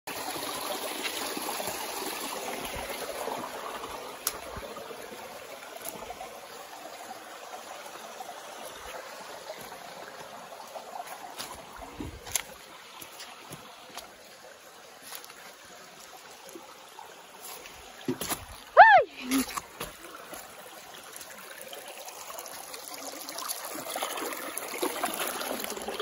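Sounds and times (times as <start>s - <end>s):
stream trickling over rocks: 0.1s - 26.0s.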